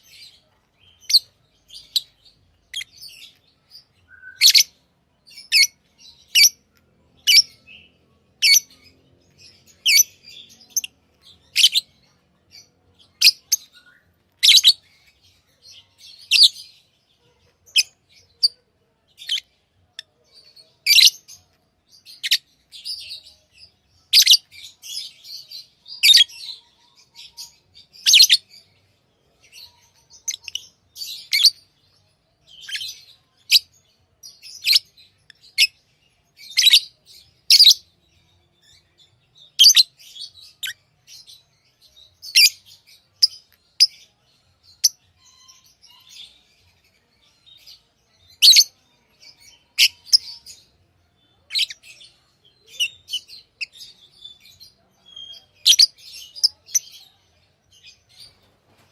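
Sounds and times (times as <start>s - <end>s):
lovebirds chirping: 0.0s - 58.9s.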